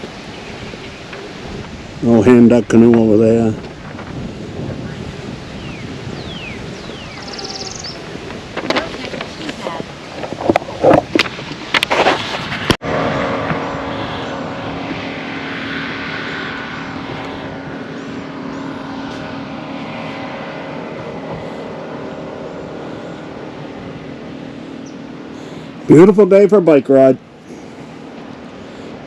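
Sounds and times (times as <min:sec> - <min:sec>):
engine drone: 0:00.0 - 0:29.0
wind buffeting microphone: 0:00.0 - 0:29.0.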